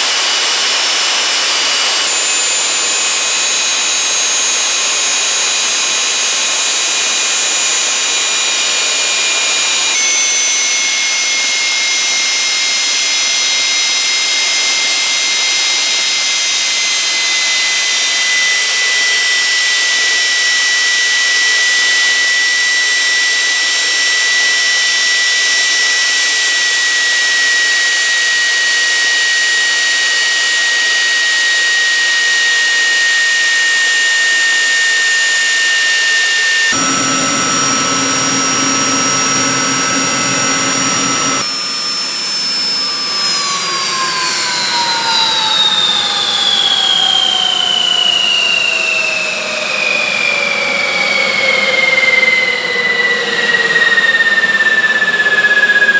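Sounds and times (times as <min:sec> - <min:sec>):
gas turbine roaring and whining: 0:00.0 - 0:55.9.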